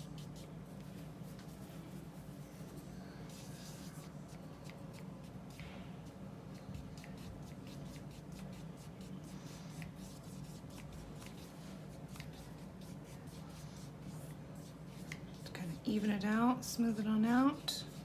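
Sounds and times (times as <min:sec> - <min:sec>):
paintbrush bristles scratching paper: 0:00.0 - 0:05.1, 0:06.5 - 0:16.2, 0:17.3 - 0:18.0.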